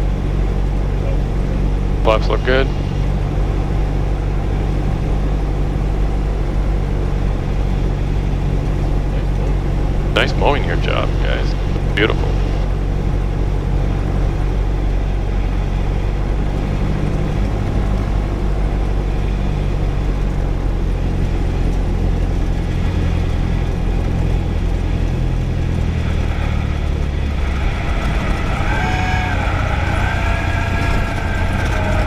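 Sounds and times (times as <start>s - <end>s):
small plane engine running: 0.0s - 32.0s.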